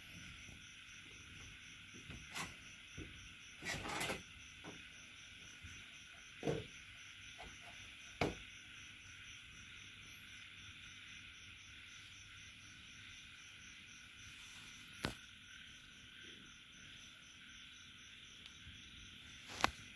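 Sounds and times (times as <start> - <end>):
insect chirring: 0.0 - 19.9.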